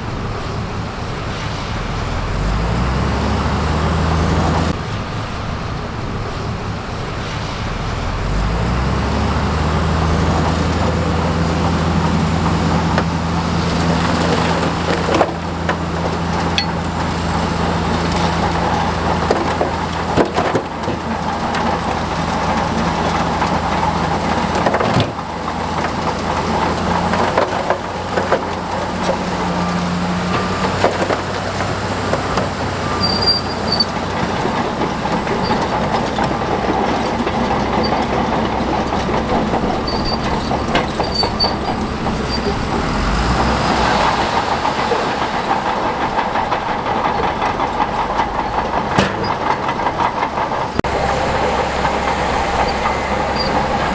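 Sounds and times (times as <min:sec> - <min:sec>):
diesel engine under load: 0:00.0 - 0:53.9
steel tracks rattling: 0:00.0 - 0:53.9.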